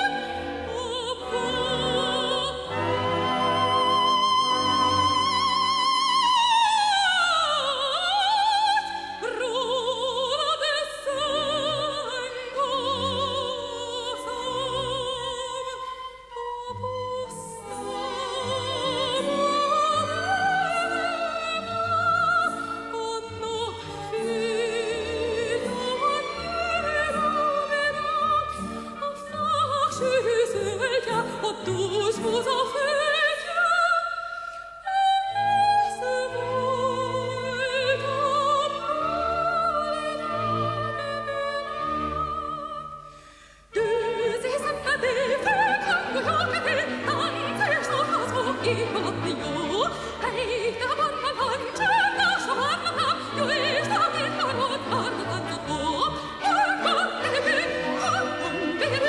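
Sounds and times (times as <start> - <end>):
operatic soprano singing: 0.0 - 59.0.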